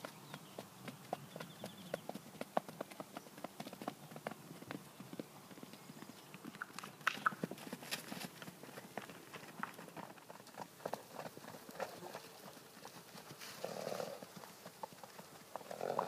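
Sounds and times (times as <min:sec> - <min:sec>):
hoofbeats on grass: 0:00.0 - 0:16.0.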